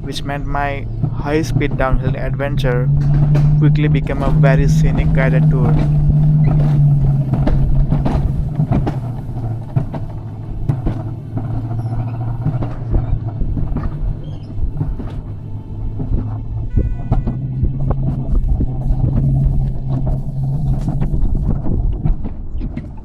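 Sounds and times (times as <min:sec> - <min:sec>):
cart wheels rumbling on rail: 0:00.0 - 0:23.0.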